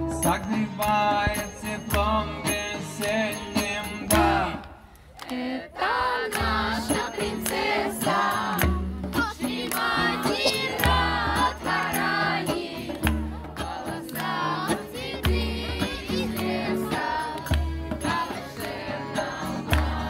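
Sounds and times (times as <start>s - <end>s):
hand drum beat: 0.0s - 4.6s, 6.3s - 20.0s
guitar: 0.0s - 4.7s, 6.4s - 20.0s.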